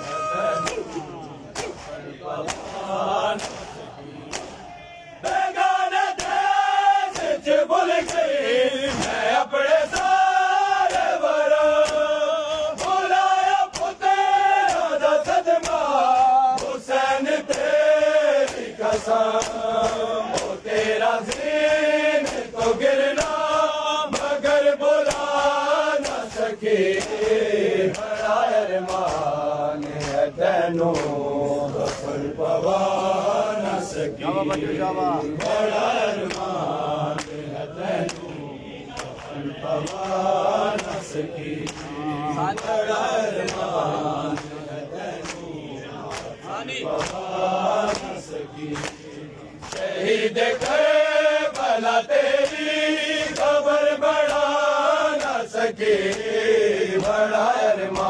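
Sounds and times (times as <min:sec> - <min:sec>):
hands slapping chests: 0:00.0 - 0:53.6, 0:54.2 - 0:56.4, 0:57.0 - 0:58.0
men chanting a lament: 0:00.0 - 0:58.0.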